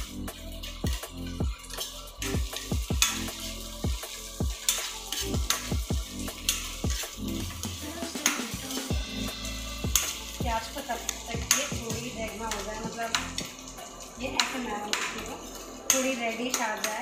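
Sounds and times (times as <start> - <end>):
music with bass beat: 0.0 - 13.7
food sizzling in oil: 0.0 - 17.0
spatula scraping a pan: 0.0 - 17.0.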